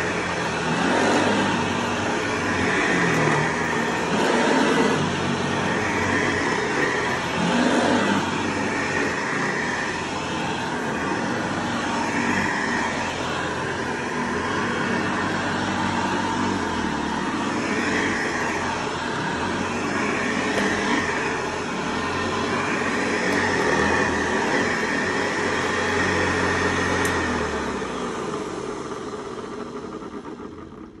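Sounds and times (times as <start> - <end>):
vacuum cleaner running on carpet: 0.0 - 31.0.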